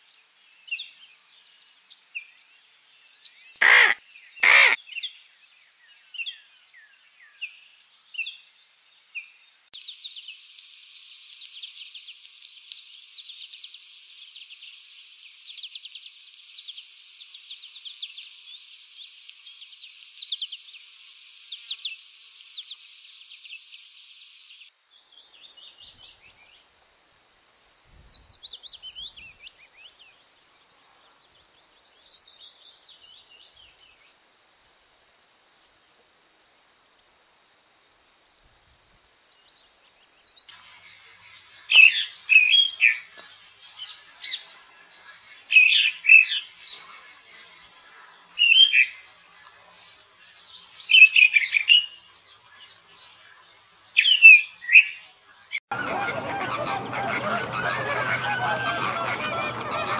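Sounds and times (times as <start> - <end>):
songbirds chirping and singing: 1.8 - 26.6, 27.6 - 34.1, 39.4 - 59.9.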